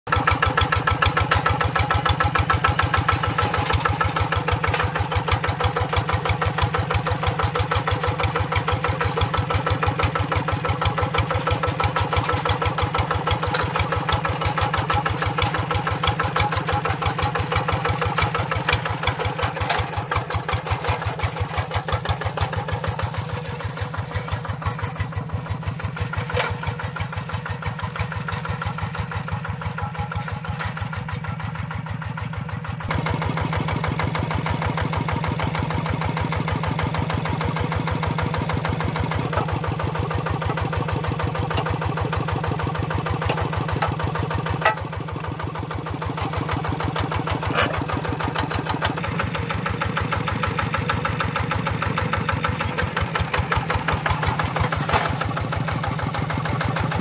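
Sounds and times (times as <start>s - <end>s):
diesel engine chugging: 0.1s - 57.0s.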